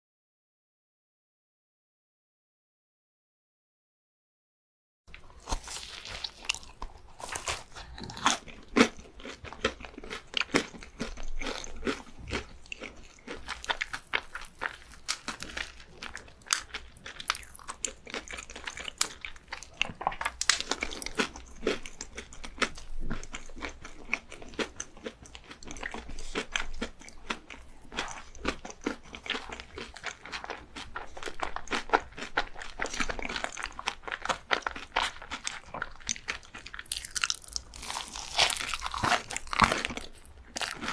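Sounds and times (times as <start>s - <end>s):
crunchy chewing: 5.1s - 40.9s.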